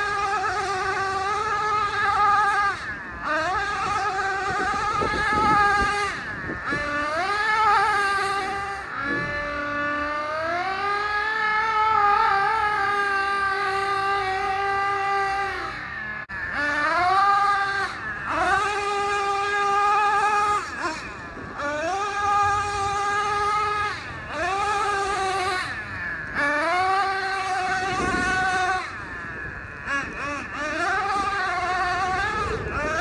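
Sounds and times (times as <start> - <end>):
model engine revving: 0.0 - 33.0.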